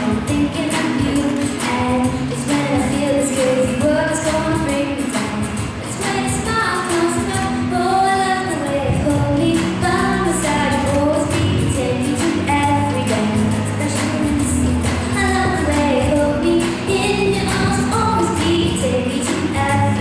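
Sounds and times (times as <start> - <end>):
musical accompaniment: 0.0 - 20.0
woman singing pop song: 0.0 - 20.0.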